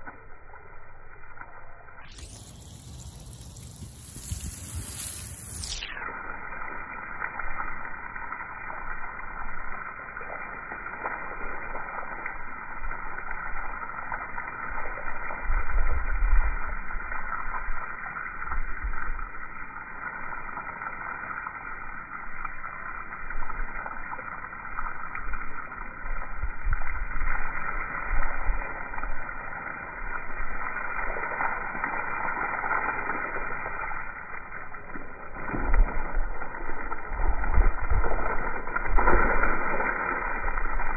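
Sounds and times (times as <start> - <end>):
hose water spraying onto gravel: 0.0 - 40.9.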